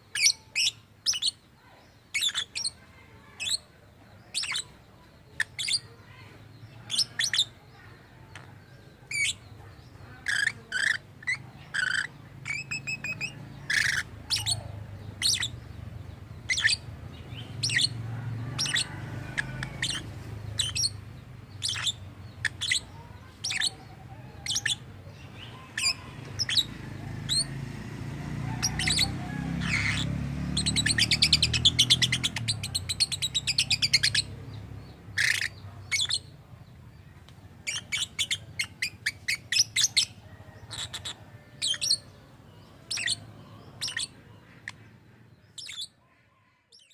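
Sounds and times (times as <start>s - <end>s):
bird chirping: 0.0s - 46.9s.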